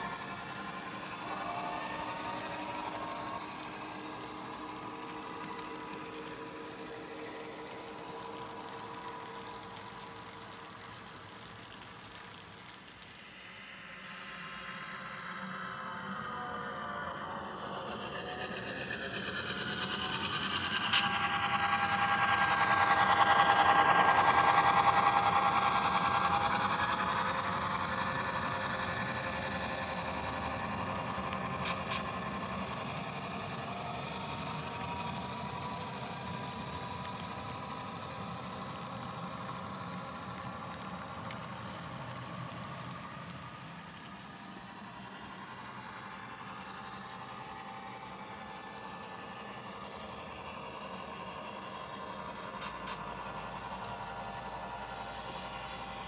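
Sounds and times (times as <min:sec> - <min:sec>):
model train rolling on rails: 0:00.0 - 0:56.0.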